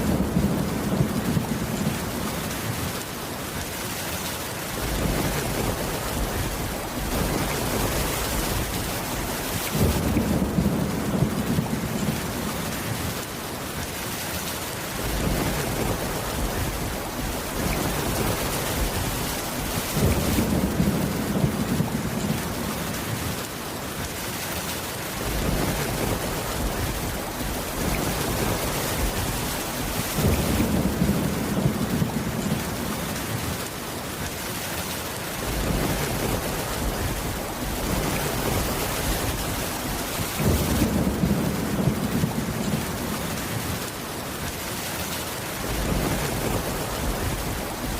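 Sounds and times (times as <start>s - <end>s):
low thunder rumbles: 0.0s - 2.9s, 4.8s - 13.3s, 14.9s - 23.4s, 25.2s - 33.7s, 35.4s - 43.9s, 45.6s - 47.9s
steady rain: 0.0s - 47.9s.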